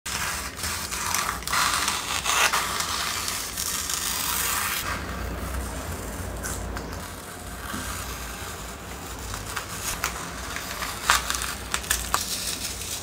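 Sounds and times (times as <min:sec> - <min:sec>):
masking tape peeling: 0:00.1 - 0:13.0.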